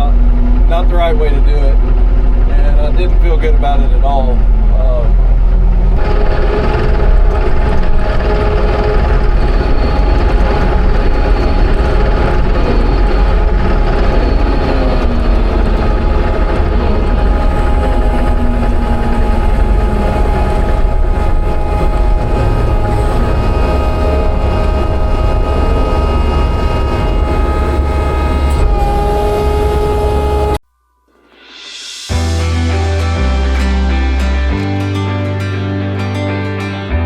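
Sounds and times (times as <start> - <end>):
skid steer engine running: 0.0 - 30.6
hydraulic whine: 0.0 - 35.0.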